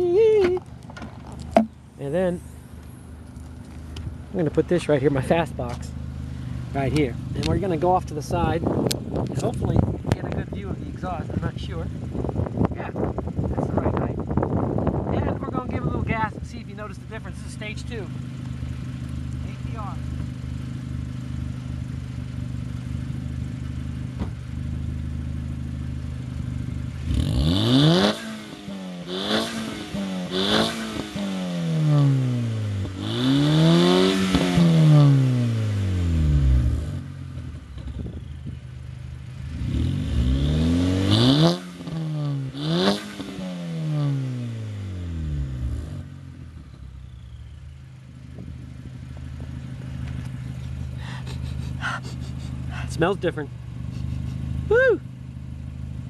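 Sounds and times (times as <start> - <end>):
car engine idling: 0.0 - 27.6, 28.3 - 56.0
car engine revving: 0.5 - 56.0.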